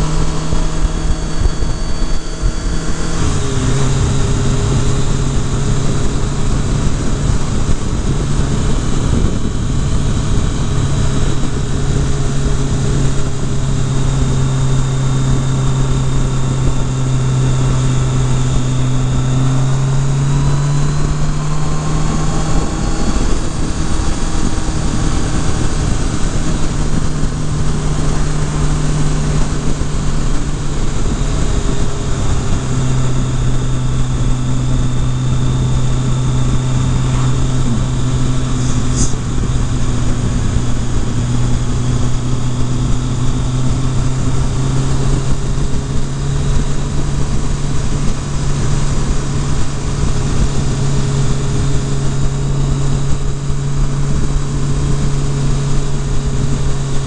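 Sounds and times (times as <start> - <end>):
motorcycle engine cruising: 0.0 - 57.0
wind noise: 0.0 - 57.0.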